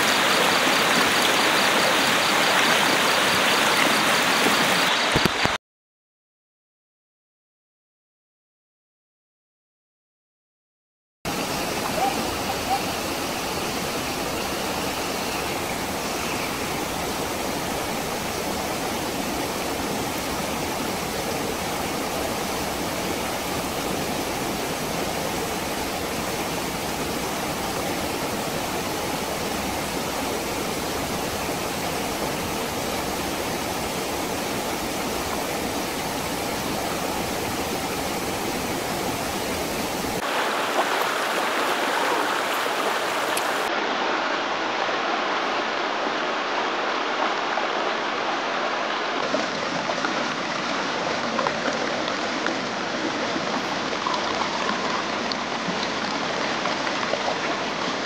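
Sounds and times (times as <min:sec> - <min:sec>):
river rushing over boulders: 0:00.0 - 0:05.6, 0:11.3 - 0:58.0.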